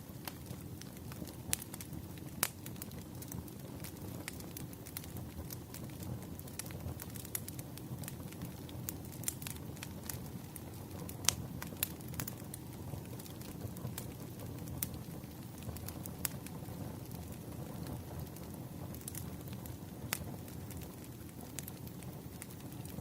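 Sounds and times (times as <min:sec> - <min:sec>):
wood fire crackling: 0:00.0 - 0:23.0
burning logs popping: 0:00.1 - 0:23.0.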